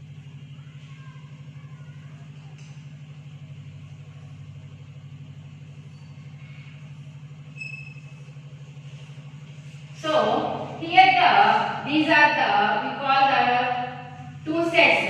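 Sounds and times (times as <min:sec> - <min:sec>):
low pulsing hum: 0:00.0 - 0:15.0.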